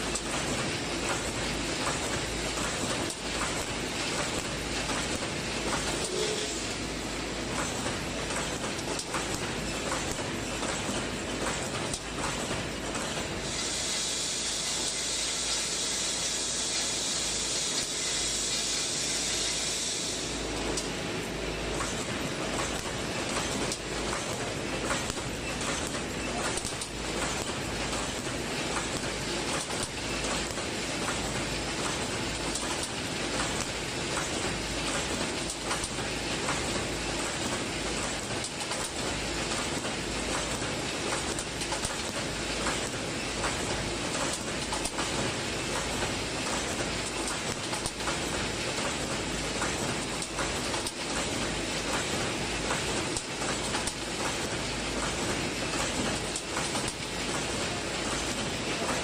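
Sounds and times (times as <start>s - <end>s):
machine clattering: 0.0s - 13.4s, 21.6s - 59.0s.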